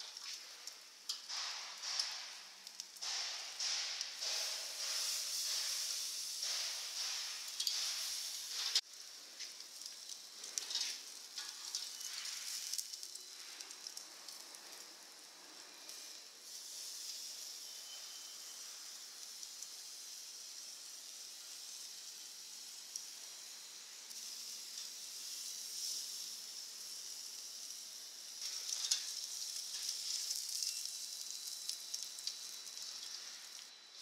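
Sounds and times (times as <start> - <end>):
meat sizzling on grill: 0.0 - 34.0.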